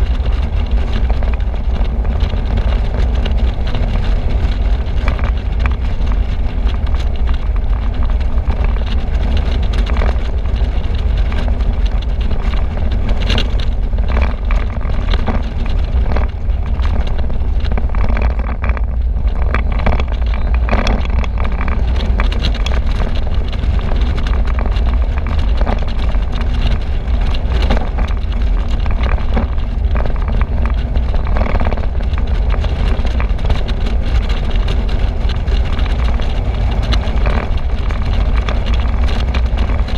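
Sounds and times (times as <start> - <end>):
car and road noise: 0.0 - 39.9
wind buffeting microphone: 0.0 - 39.9.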